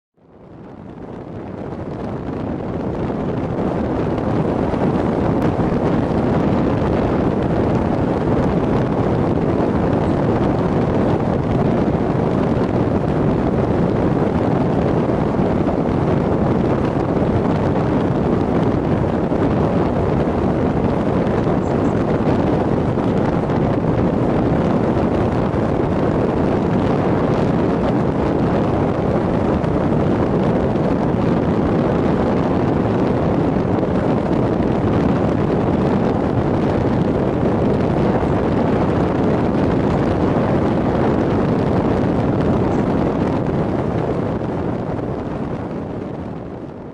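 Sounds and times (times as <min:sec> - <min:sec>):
engine and tyre noise: 0:00.2 - 0:46.9
wind rushing over microphone: 0:00.2 - 0:46.9.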